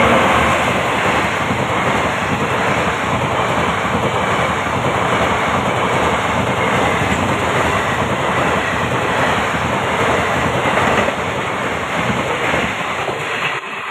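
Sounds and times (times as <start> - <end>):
train passing at speed: 0.0 - 13.9.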